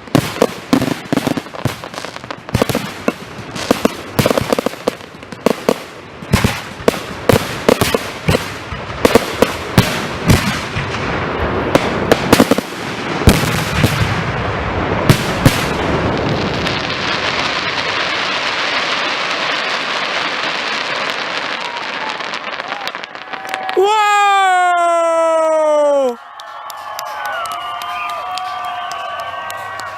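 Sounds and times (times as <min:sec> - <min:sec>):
fireworks bangs: 0:00.0 - 0:24.9, 0:26.3 - 0:29.9
fireworks crackling: 0:00.0 - 0:29.9.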